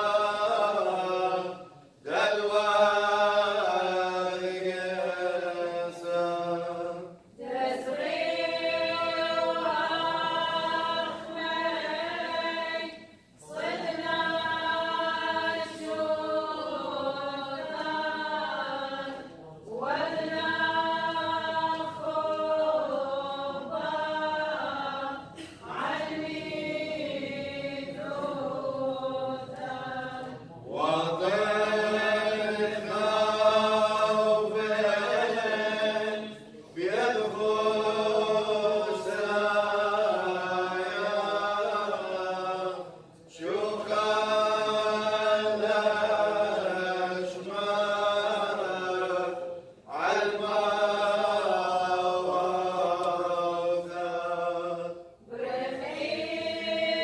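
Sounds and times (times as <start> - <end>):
choir chanting a hymn: 0.0 - 57.0.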